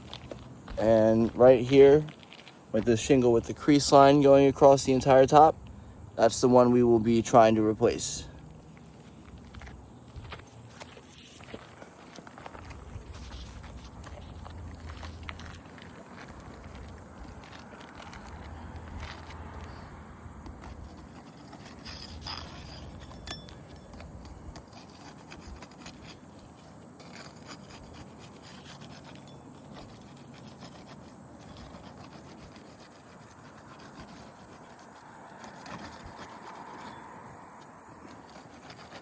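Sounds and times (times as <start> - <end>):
hand tool scraping roof shingles: 0.0 - 5.5, 6.9 - 39.0.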